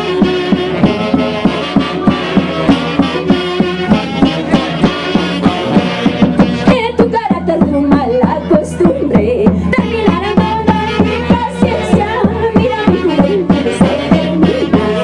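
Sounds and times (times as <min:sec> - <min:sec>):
fast drum beat: 0:00.0 - 0:15.0
live band music: 0:00.0 - 0:15.0.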